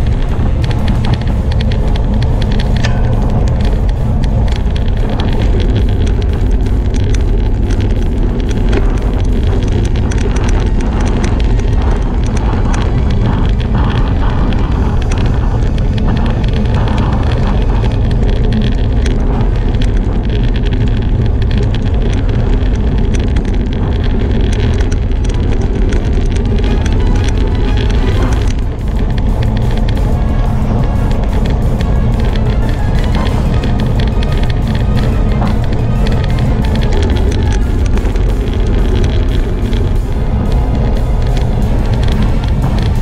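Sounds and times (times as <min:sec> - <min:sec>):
bicycle tyre and road noise: 0:00.0 - 0:43.0
wind buffeting microphone: 0:00.0 - 0:43.0.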